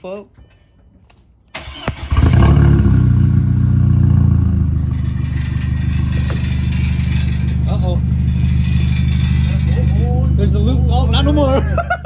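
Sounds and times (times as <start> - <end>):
loud car engine idling: 2.0 - 12.0.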